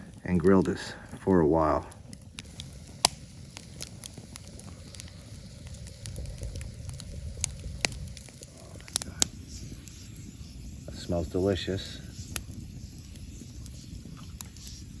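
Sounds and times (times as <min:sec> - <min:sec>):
campfire crackling: 0:00.0 - 0:15.0
sharp fire pops: 0:00.0 - 0:15.0.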